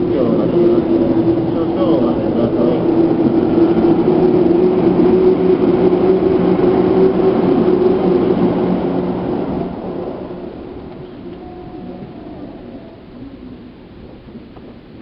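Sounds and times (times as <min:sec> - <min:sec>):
train motor and gear hum: 0:00.0 - 0:15.0
train wheels rumbling on rail: 0:00.0 - 0:15.0.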